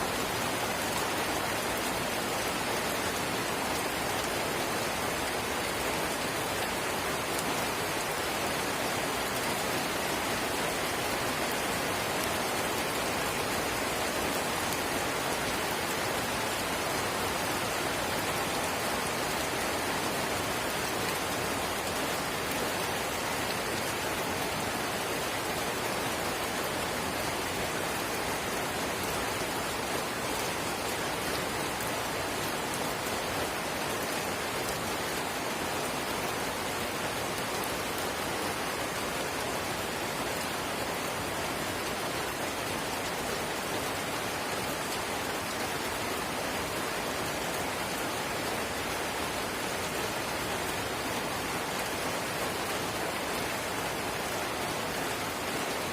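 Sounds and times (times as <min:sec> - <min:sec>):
light rain pattering: 0:00.0 - 0:55.9.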